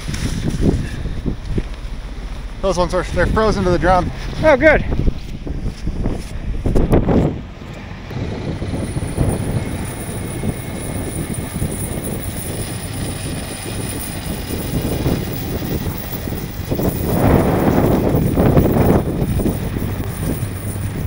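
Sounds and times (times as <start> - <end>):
diesel engine running: 0.0 - 21.0
wind rumbling on microphone: 0.0 - 21.0.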